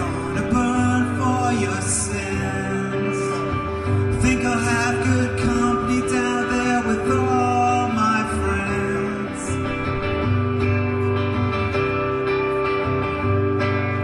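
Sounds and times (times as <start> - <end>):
electric guitar through speakers: 0.0 - 14.0.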